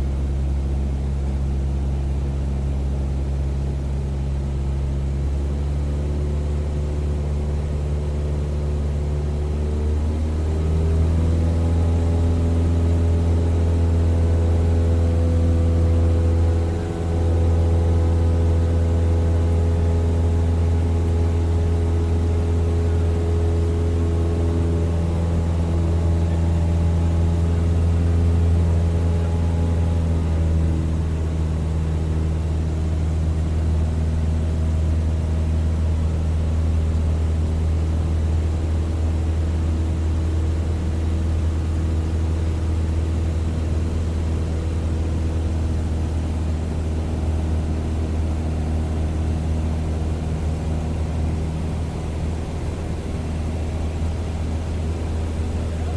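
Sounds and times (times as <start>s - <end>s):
propeller plane engine: 0.0s - 55.9s.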